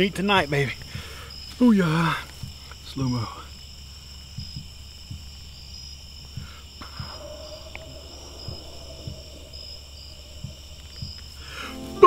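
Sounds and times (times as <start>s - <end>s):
insect chorus chirping: 0.0s - 12.0s
soft low thumps: 0.0s - 12.0s.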